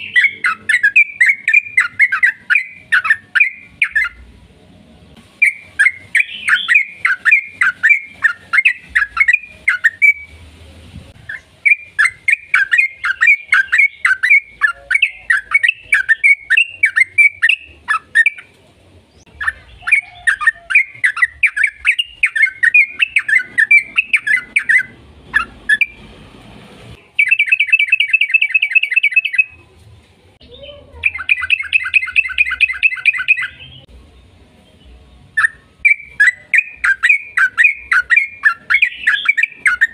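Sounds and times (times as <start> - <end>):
bird chattering and trilling: 0.0 - 4.3, 5.4 - 10.4, 11.2 - 26.1, 27.0 - 29.6, 30.4 - 33.9, 35.3 - 39.9.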